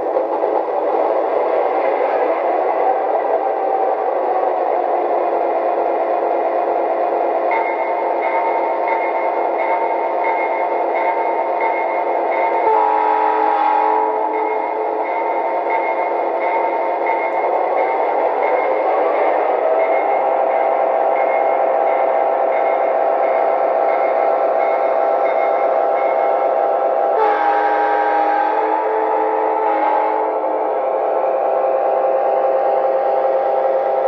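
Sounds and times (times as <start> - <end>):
model locomotive diesel engine sounds: 0.0 - 34.0.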